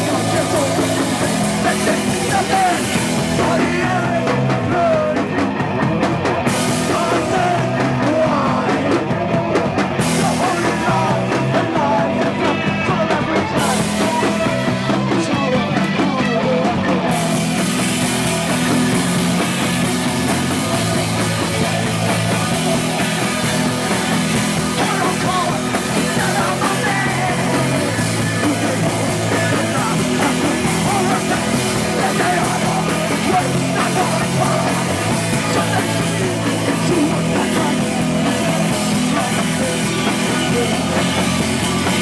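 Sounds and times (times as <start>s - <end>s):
punk rock band playing live: 0.0s - 42.0s.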